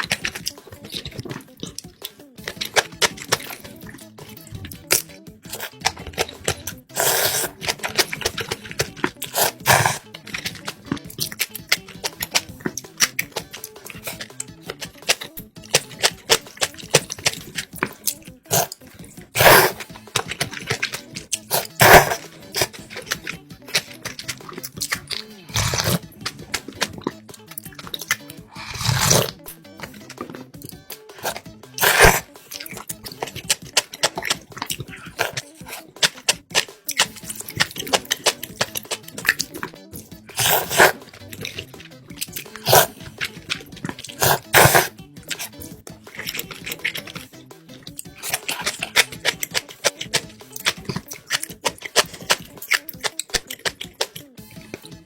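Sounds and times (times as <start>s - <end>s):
noisy noodle slurps: 0.0s - 1.8s, 2.4s - 47.3s, 47.9s - 54.9s
wet mouth clicks and chewing: 0.0s - 55.0s.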